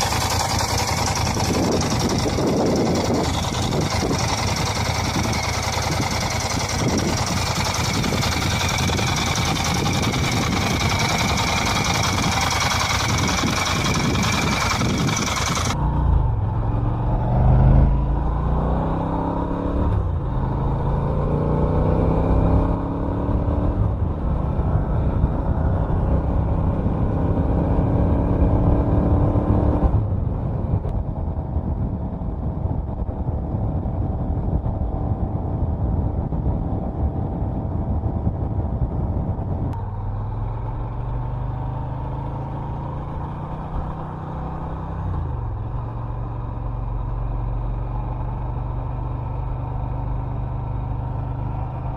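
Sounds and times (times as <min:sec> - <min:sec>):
motorcycle engine revving through gears: 0:00.0 - 0:30.2, 0:36.8 - 0:51.9.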